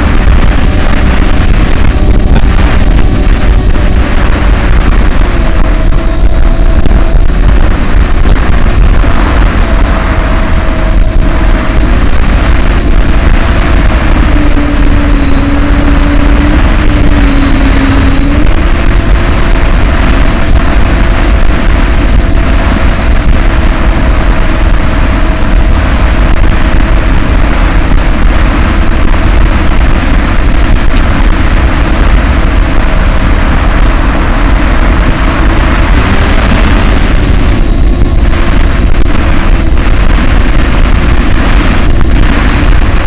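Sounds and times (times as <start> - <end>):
electric motor propeller whine: 0.0 - 43.0
wind rush on microphone: 0.0 - 43.0.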